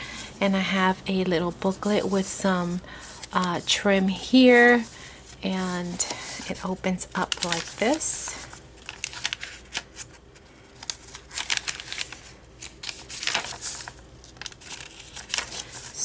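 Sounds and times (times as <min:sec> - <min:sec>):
paper rustling and crinkling: 0:02.9 - 0:16.0.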